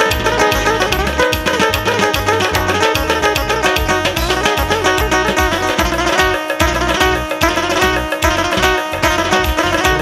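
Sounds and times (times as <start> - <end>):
driving drum beat: 0.0 - 10.0
fast dance melody: 0.0 - 10.0.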